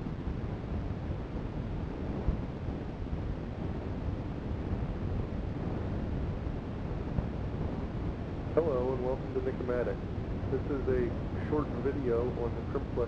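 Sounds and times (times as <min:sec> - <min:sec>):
low-pitched background noise: 0:00.0 - 0:13.0.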